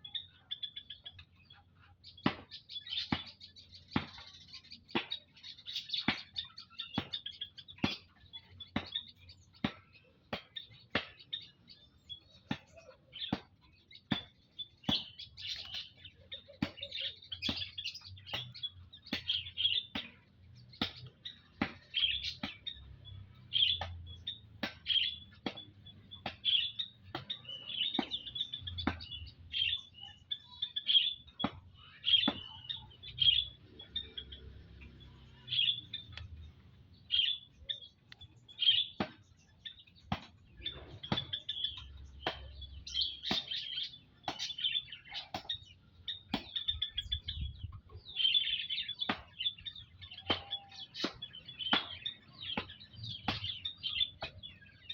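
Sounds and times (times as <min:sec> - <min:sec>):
tailorbirds calling: 0:00.0 - 0:54.9.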